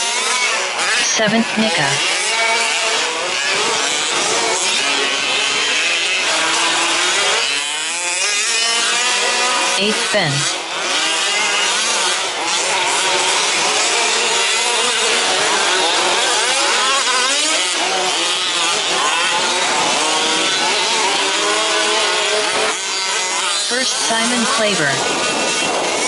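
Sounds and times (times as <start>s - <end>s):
small engines buzzing and revving: 0.0s - 26.0s.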